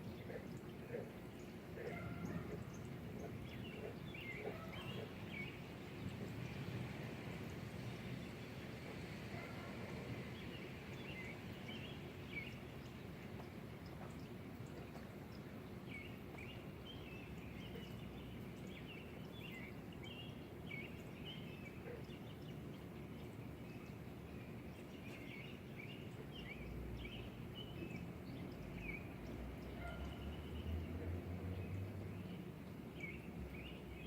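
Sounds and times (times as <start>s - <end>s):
small birds chirping: 0.0s - 8.5s, 9.3s - 34.0s
steady low background hum: 0.0s - 34.0s.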